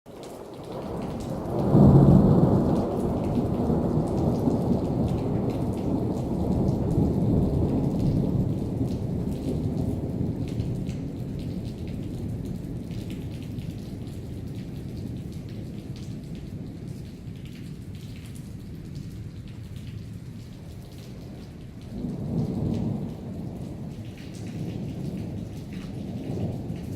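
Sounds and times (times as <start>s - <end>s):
steady rain: 0.1s - 26.9s
thunder rumbling: 0.7s - 17.0s, 21.0s - 26.9s.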